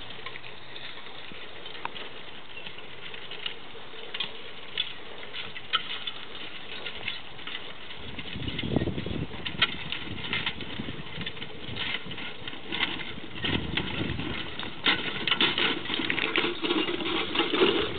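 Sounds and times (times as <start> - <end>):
harrow discs clinking and rattling: 0.0 - 17.9
horse footsteps on soil: 0.0 - 17.9.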